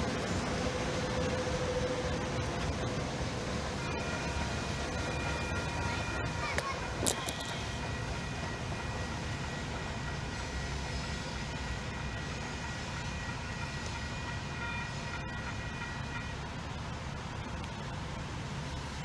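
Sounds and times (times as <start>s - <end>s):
distant diesel train rumbling: 0.0s - 19.0s.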